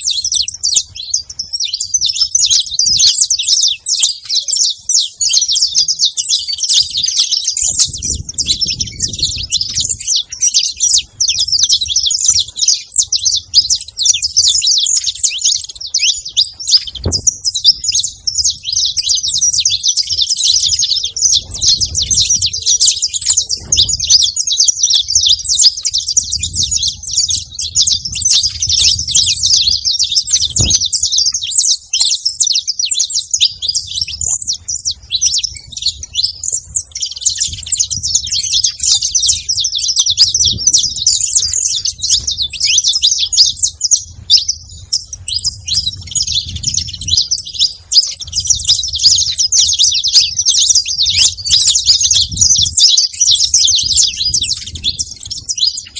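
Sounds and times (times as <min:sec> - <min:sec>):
flock of finches chattering: 0:00.0 - 0:55.9.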